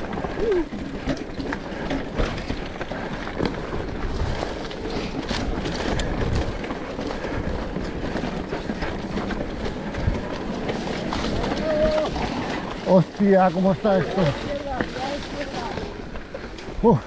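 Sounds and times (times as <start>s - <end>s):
bike rattling over bumps: 0.0s - 17.0s
tyres on loose dirt: 0.0s - 17.0s.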